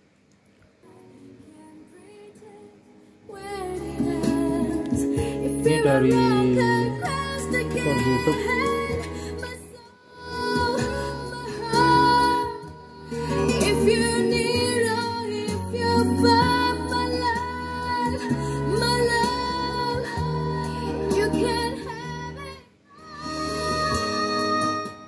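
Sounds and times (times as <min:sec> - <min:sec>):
woman singing: 0:01.4 - 0:25.0
acoustic guitar: 0:03.4 - 0:25.0.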